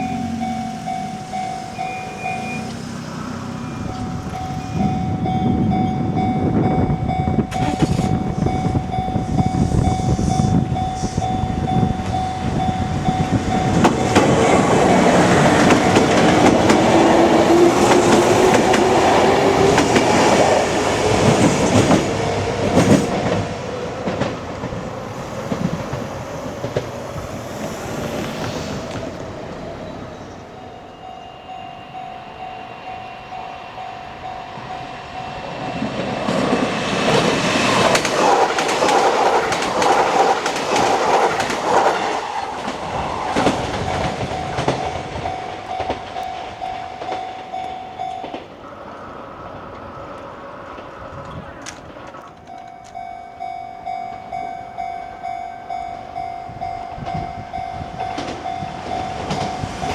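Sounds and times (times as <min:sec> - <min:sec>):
crossing warning bell: 0:00.0 - 0:59.9
train wheels clicking over joints: 0:06.6 - 0:30.6, 0:34.1 - 0:59.9.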